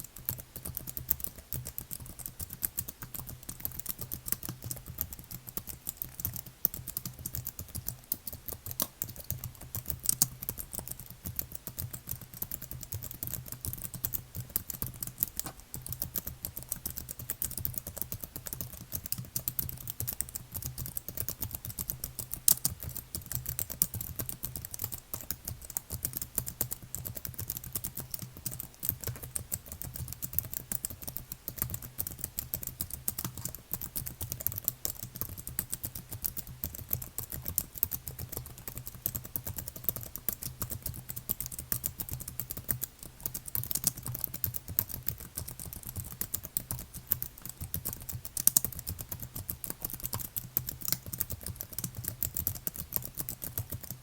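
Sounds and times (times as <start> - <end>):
fast typing on keyboard: 0.0 - 54.0.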